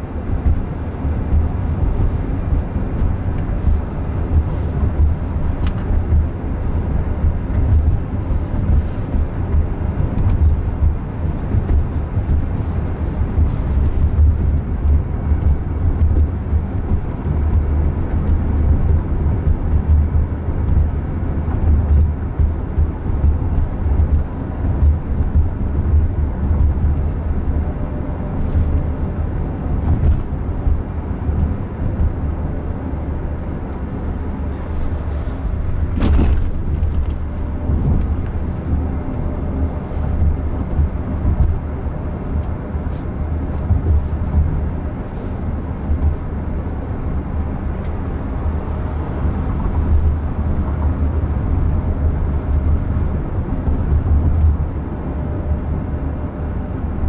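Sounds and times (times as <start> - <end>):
road and tyre rumble in car: 0.0 - 57.0.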